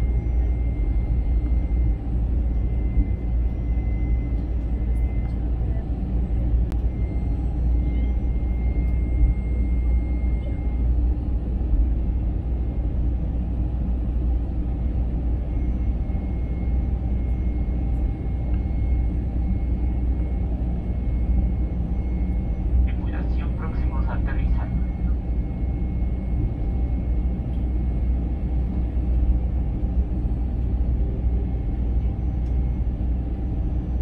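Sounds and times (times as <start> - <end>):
airplane cabin low rumble: 0.0 - 34.0
faint thin engine whine: 0.0 - 34.0.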